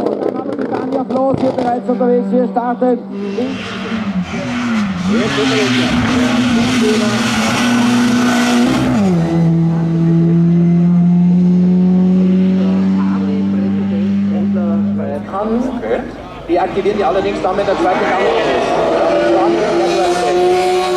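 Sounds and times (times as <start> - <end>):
racing car engine accelerating: 3.1 - 20.9.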